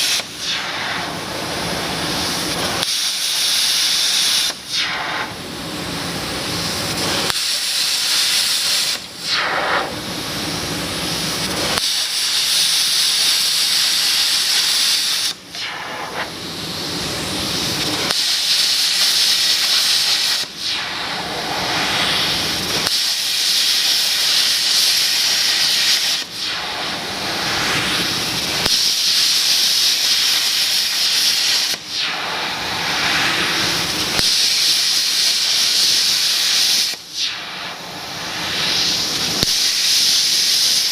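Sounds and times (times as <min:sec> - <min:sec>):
plasma torch cutting steel: 0:00.0 - 0:40.9.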